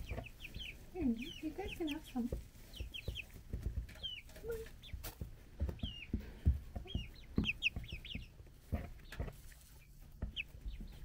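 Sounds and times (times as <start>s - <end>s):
birds pecking and rustling: 0.0s - 11.0s
chicks peeping: 0.0s - 11.0s.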